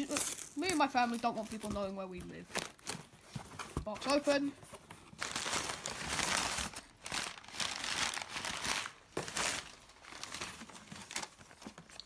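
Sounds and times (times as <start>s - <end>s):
packing material crinkling: 0.0s - 3.2s, 3.8s - 12.0s.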